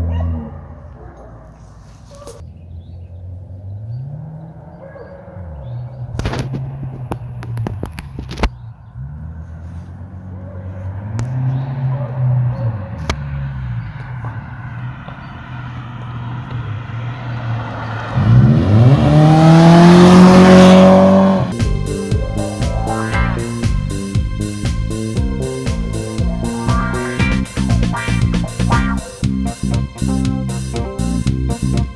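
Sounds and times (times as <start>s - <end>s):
car exhaust idling and revving: 0.0s - 31.9s.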